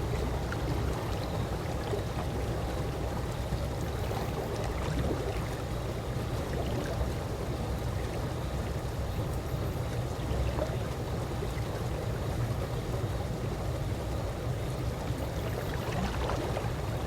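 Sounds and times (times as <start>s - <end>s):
pool water moving gently: 0.0s - 17.0s.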